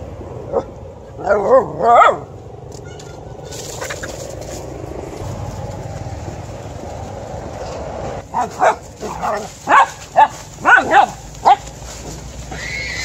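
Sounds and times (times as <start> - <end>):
steady low rumbling: 0.0 - 12.6.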